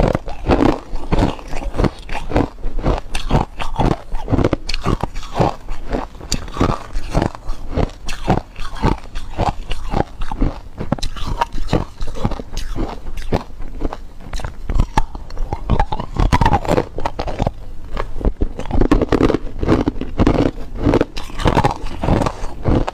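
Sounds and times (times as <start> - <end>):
ice cubes crunched by teeth: 0.0 - 22.9.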